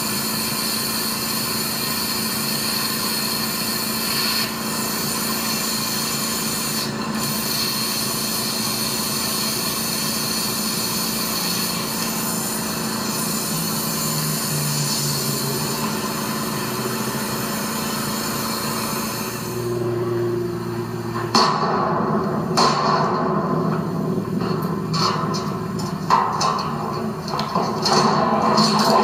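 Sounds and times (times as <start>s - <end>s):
machine running steadily: 0.0s - 29.0s.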